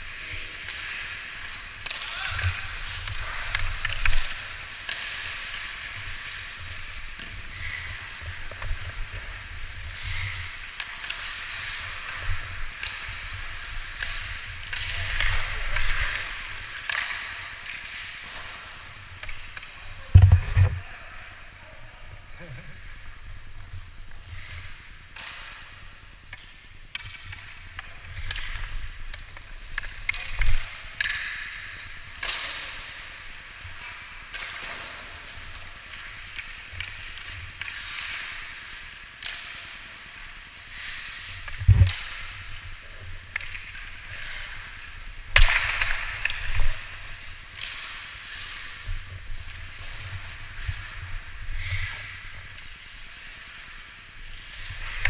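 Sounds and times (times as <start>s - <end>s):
hockey sticks and puck cracking: 0.0s - 21.6s, 22.2s - 55.0s
skates scraping ice: 0.0s - 55.0s.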